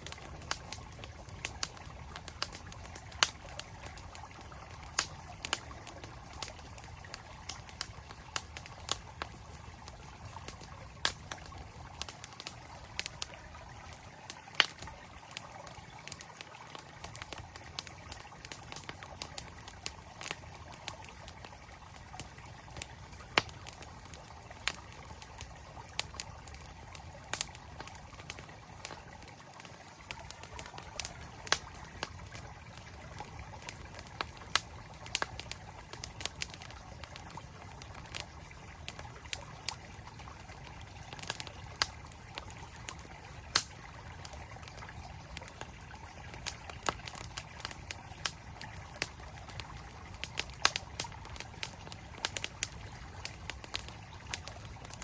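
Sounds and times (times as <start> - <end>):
campfire crackling and popping: 0.0 - 55.0
mountain stream flowing: 0.0 - 55.0.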